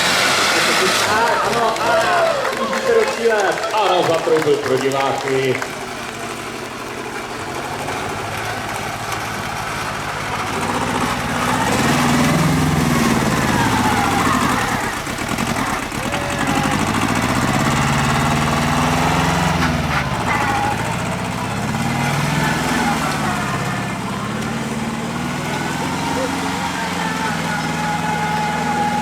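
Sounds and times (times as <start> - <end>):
tractor engine revving: 0.0 - 29.0.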